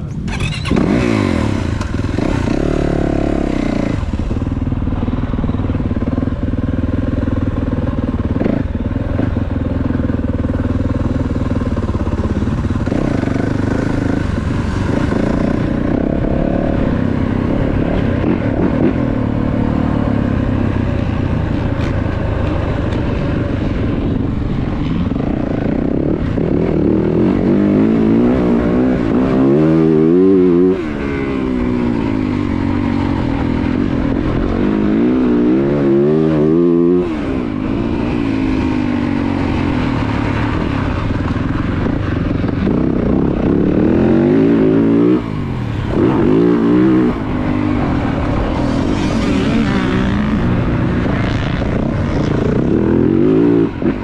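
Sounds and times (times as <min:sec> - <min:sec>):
motorcycle engine revving hard: 0:00.2 - 0:04.7, 0:08.2 - 0:22.0, 0:25.1 - 0:54.0.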